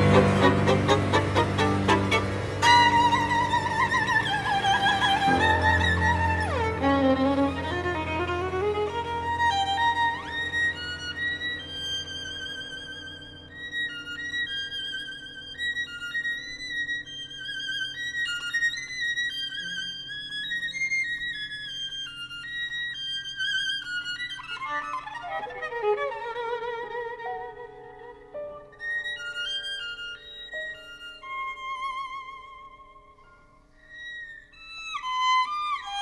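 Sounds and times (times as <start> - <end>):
slow violin melody: 0.0 - 36.0.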